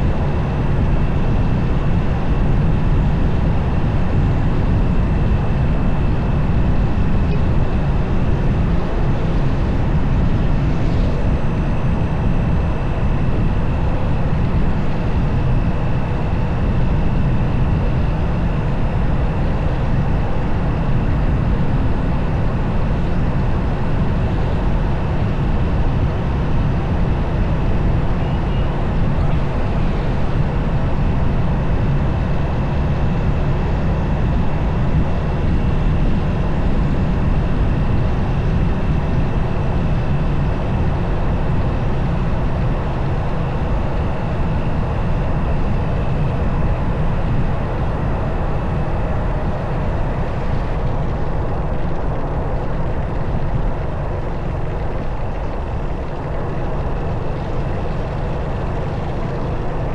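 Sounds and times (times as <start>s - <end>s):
motorcycle engine and road noise: 0.0s - 59.9s
wind rushing over microphone: 0.0s - 59.9s.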